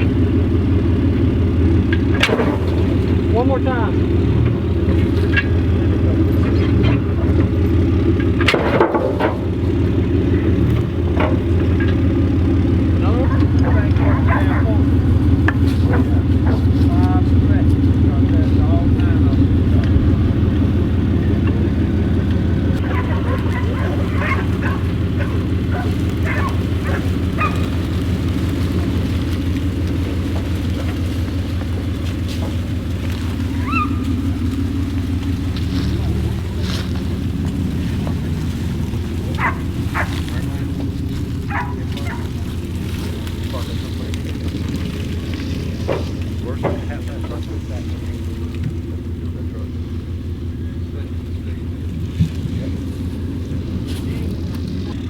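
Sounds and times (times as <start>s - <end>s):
large vehicle engine running: 0.0s - 55.0s.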